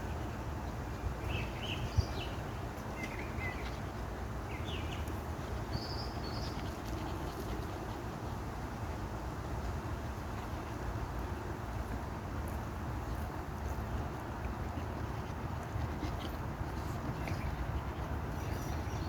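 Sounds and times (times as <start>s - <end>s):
outdoor background noise: 0.0s - 19.0s
small birds chirping: 0.1s - 8.1s, 10.4s - 19.0s.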